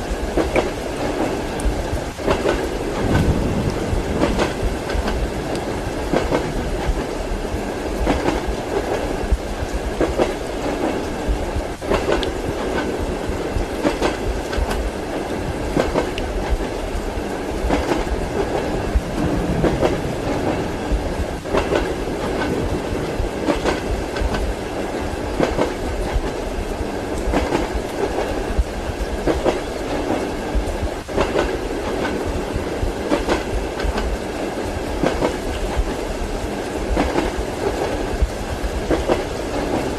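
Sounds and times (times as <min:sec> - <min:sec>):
train rumbling: 0:00.0 - 0:39.9
train wheels clacking over rail joints: 0:00.1 - 0:07.2, 0:07.9 - 0:26.4, 0:27.1 - 0:39.9.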